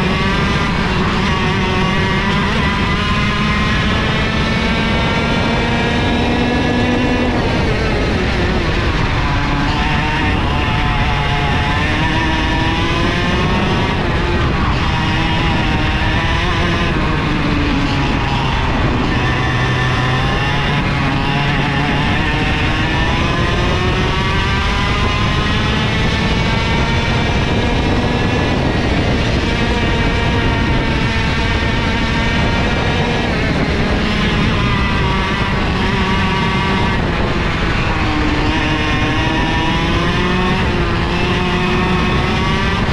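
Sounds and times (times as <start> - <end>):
two-stroke kart engine racing: 0.0 - 42.9.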